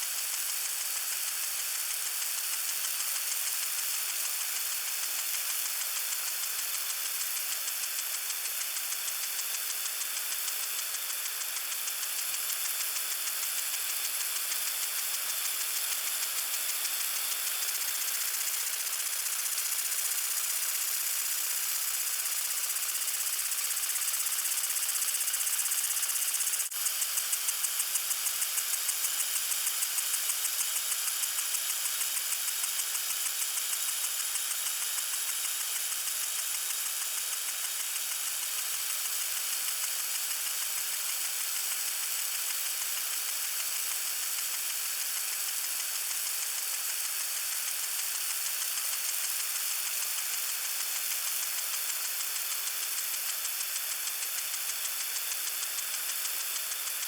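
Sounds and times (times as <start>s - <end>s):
lawn sprinkler hissing: 0.0s - 57.0s
sprinkler pulsing tick: 0.2s - 57.0s.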